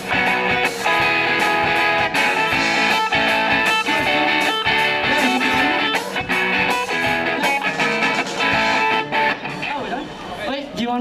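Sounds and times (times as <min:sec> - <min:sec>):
steady beat with sharp hits: 0:00.0 - 0:09.8
guitar strummed and picked: 0:00.0 - 0:09.9.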